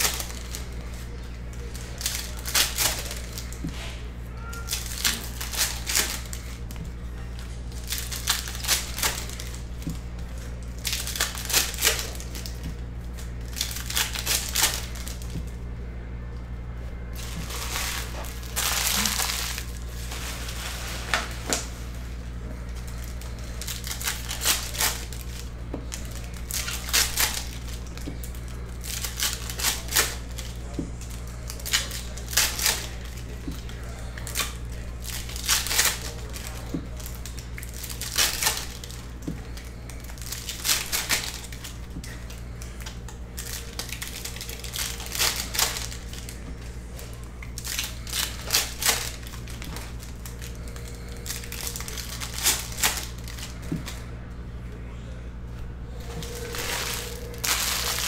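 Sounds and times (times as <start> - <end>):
foil wrappers crinkling: 0.0 - 15.6, 17.1 - 54.2, 55.9 - 58.0
steady low hum: 0.0 - 58.0.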